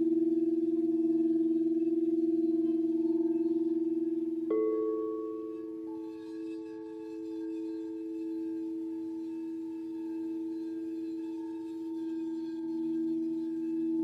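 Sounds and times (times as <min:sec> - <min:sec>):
higher bowl tone: 0:00.0 - 0:14.0
singing bowls ringing: 0:00.0 - 0:14.0.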